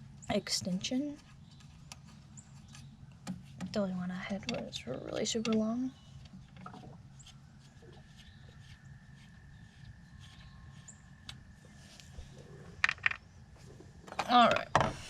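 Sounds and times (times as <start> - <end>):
faint low rumble: 0.0 - 14.4.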